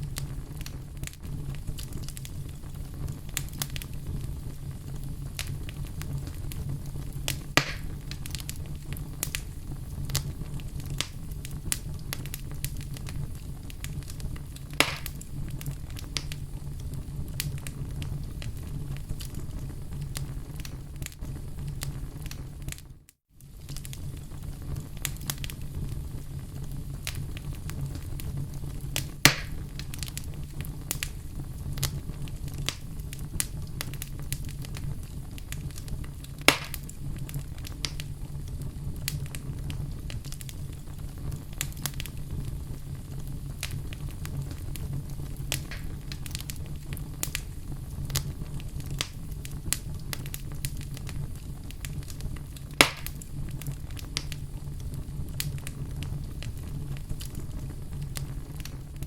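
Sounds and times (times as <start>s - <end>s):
fire popping sharply: 0.0s - 59.0s
fire rumbling and crackling: 0.0s - 59.0s.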